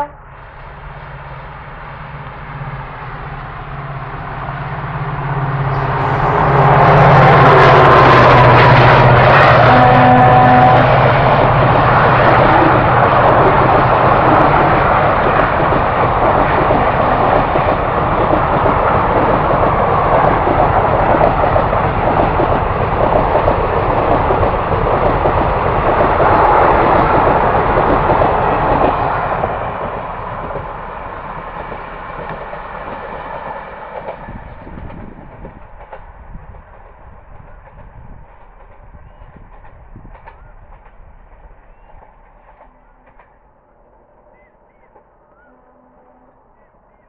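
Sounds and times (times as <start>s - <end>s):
train wheels rushing on rails: 0.0s - 45.5s.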